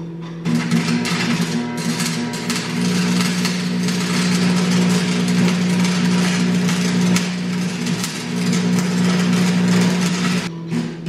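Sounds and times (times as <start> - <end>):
welder arc crackling and sizzling: 0.4 - 11.0.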